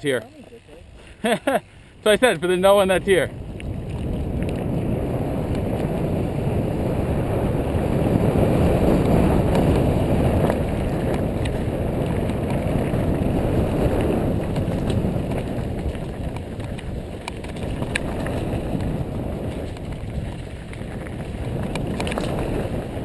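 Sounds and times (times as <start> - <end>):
bike tyre rumble: 0.0 - 23.0
wind rush on microphone: 0.0 - 23.0.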